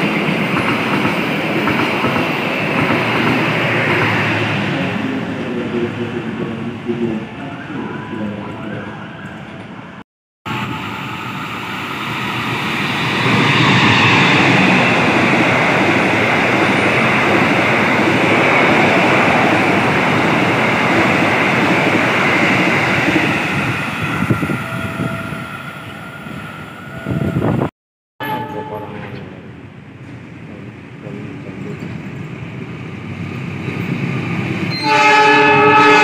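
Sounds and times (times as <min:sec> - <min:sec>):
train passing at speed: 0:00.0 - 0:27.7, 0:28.3 - 0:36.0.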